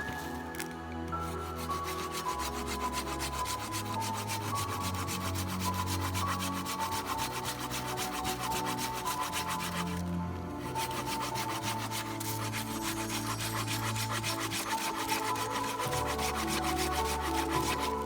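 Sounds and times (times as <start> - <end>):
music: 0.0 - 18.0
tool rasping on wood: 1.2 - 18.0.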